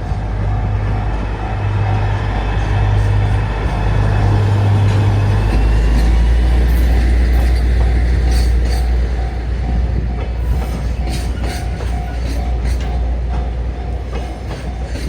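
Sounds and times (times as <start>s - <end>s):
crossing warning bell dinging: 0.0s - 15.0s
diesel locomotive rumble: 0.0s - 15.0s
train wheels clacking on rail joints: 0.0s - 15.0s.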